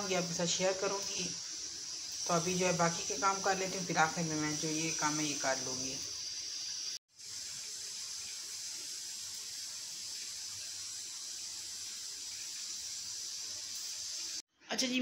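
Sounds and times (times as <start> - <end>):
tea boiling in metal pot: 0.0 - 14.4.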